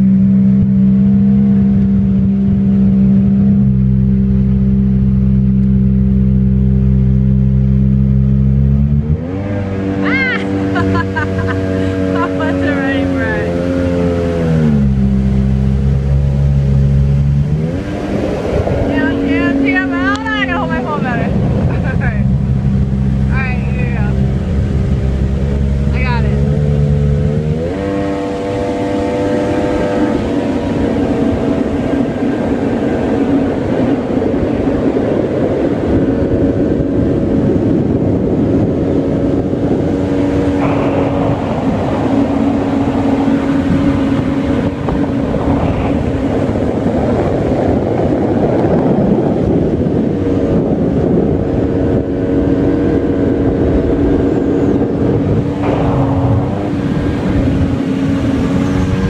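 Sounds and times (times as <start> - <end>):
jet ski engine droning: 0.0 - 59.0
water rushing: 0.0 - 59.0.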